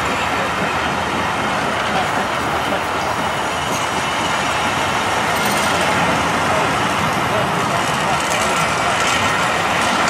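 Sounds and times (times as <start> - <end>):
train coaches rumbling past: 0.0 - 10.0.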